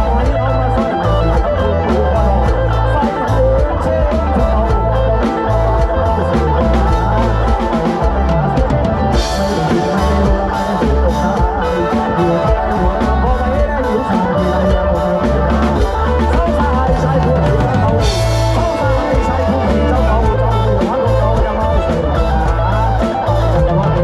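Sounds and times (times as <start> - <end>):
drum kit beat: 0.0 - 24.0
heavy bass: 0.0 - 24.0
live band music: 0.0 - 24.0.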